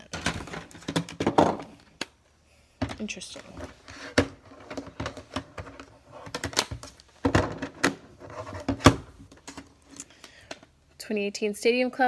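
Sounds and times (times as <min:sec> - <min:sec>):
plastic cases clacking together: 0:00.0 - 0:02.2, 0:02.8 - 0:10.7.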